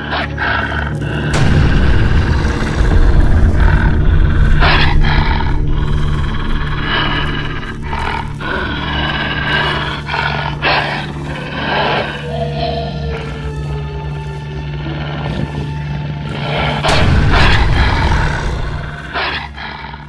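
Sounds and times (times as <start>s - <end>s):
recorded werewolf growls and snarls: 0.0s - 20.0s
steady low drone: 0.0s - 20.0s.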